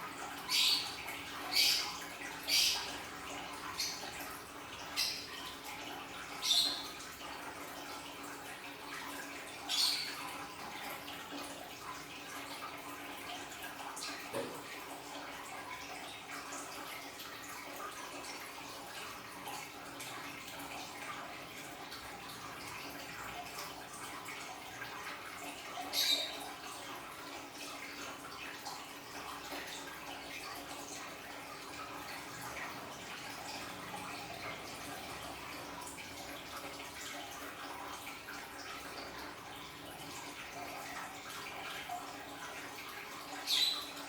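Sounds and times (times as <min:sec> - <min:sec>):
water trickling and splashing: 0:00.0 - 0:44.0.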